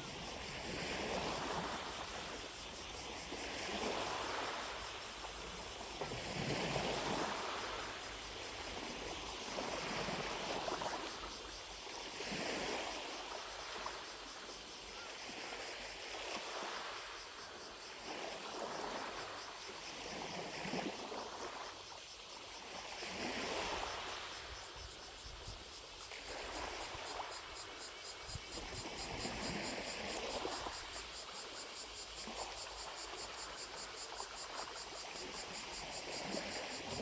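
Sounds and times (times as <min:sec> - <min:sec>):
distant cicadas buzzing: 0:00.0 - 0:37.0
lake waves lapping on shore: 0:00.0 - 0:37.0.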